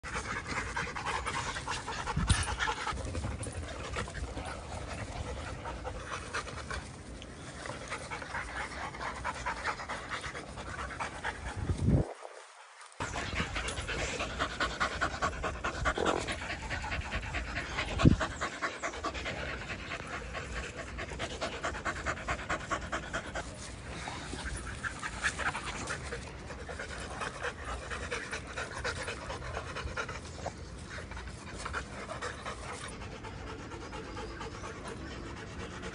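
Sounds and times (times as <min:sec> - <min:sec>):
dogs panting fast: 0:00.0 - 0:35.9.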